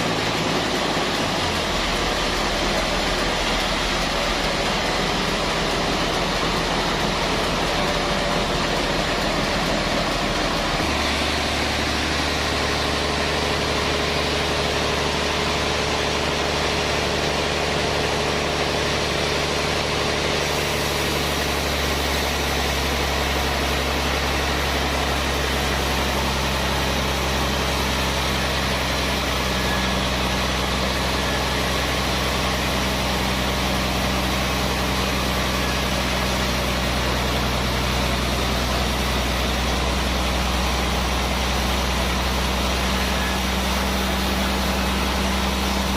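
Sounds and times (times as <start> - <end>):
sawmill machinery engine drone: 0.0 - 45.9.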